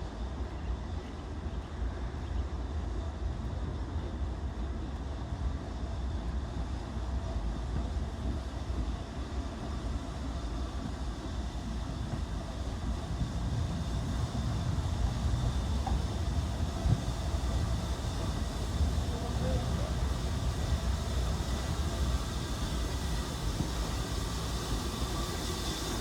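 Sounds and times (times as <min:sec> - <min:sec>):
steam train rumbling: 0:00.0 - 0:26.0.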